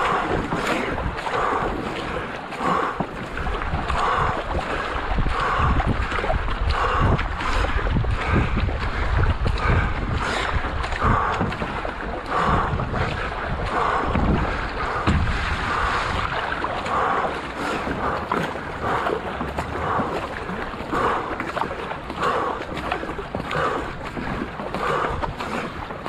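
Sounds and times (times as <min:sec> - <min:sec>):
paddle splashing in water: 0:00.0 - 0:26.0
wind rumbling on microphone: 0:00.0 - 0:26.0.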